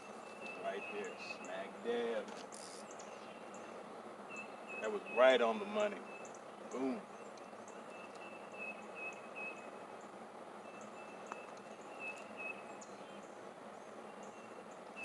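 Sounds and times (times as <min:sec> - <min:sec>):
insects chirping: 0:00.0 - 0:15.0
steady background hiss: 0:00.0 - 0:15.0.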